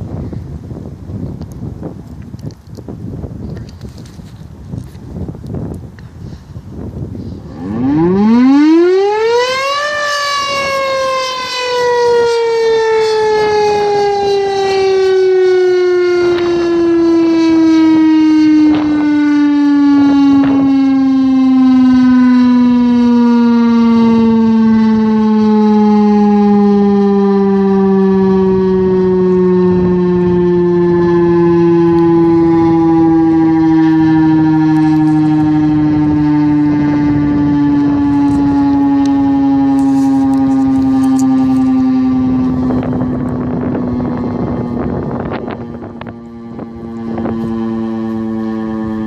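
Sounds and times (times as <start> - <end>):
mechanical siren wailing: 6.8 - 49.0.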